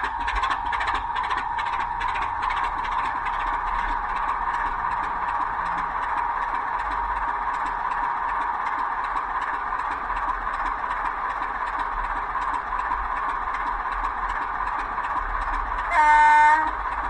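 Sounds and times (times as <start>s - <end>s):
diesel engine idling through small speaker: 0.0s - 17.0s.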